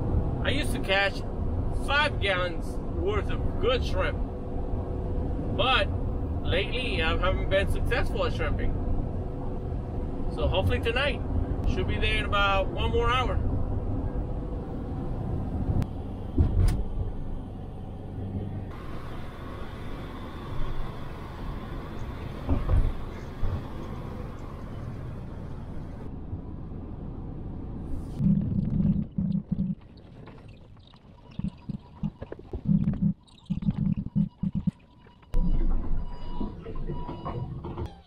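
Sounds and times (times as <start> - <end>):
road and engine rumble: 0.0 - 38.0.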